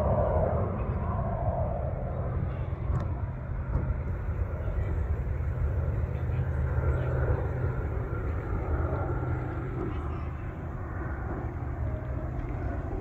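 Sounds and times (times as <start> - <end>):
aircraft engine rumbling: 0.0 - 13.0.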